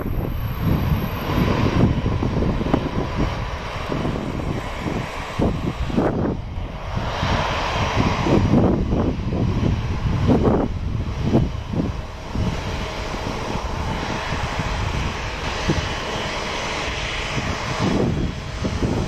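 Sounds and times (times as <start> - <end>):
faint engine whine: 0.0 - 19.0
jet engines rumbling: 0.0 - 19.0.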